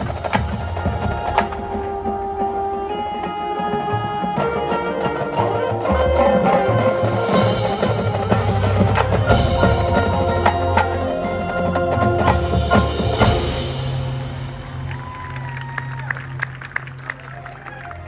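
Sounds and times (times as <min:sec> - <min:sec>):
drums and percussion strikes: 0:00.0 - 0:16.9
band playing sustained chords: 0:00.0 - 0:18.0.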